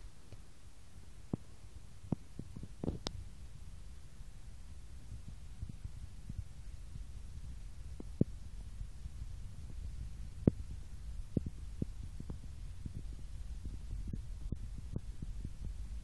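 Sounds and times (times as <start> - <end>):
low rumble on phone microphone: 0.0 - 16.0.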